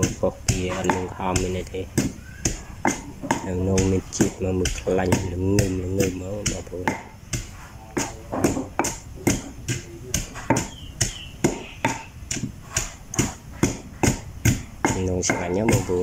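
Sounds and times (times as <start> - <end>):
pestle pounding in stone mortar: 0.0 - 16.0.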